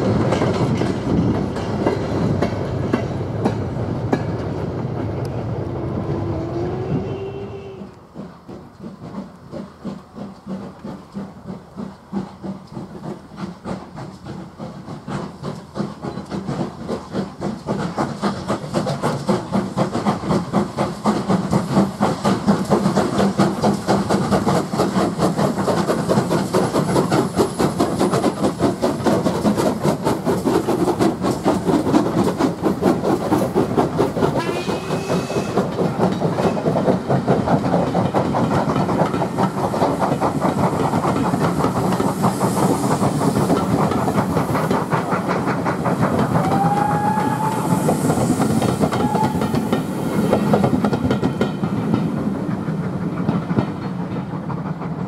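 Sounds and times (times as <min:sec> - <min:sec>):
steam locomotive exhaust beats: 0:00.0 - 0:55.0
train wheels clattering on rail joints: 0:00.0 - 0:55.0
steam hiss: 0:05.4 - 0:55.0.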